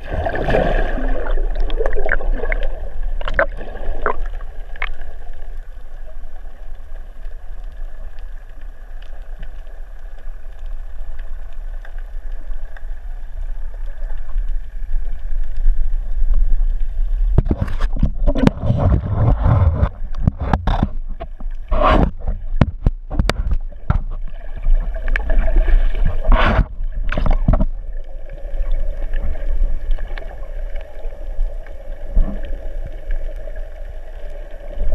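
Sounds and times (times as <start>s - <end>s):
underwater rumble: 0.0s - 34.9s
water sloshing and splashing: 0.0s - 34.9s.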